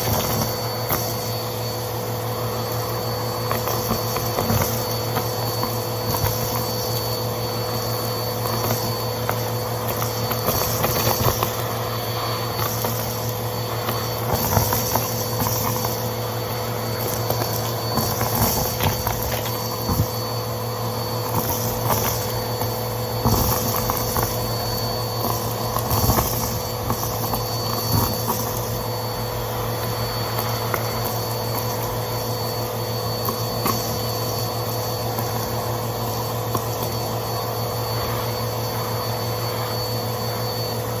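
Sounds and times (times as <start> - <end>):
vacuum cleaner running: 0.0 - 41.0
debris crackling in vacuum: 2.6 - 38.3.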